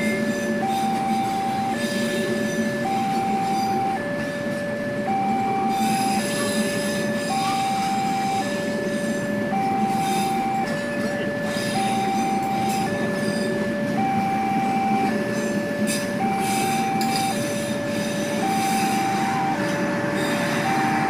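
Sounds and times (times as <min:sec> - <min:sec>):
train coaches rolling past: 0:00.0 - 0:21.0
two-tone level crossing alarm: 0:00.0 - 0:21.0.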